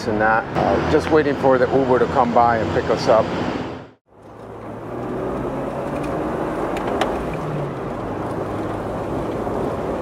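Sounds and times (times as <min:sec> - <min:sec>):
road rumble: 0:00.0 - 0:10.0
vehicle engine hum: 0:00.4 - 0:10.0.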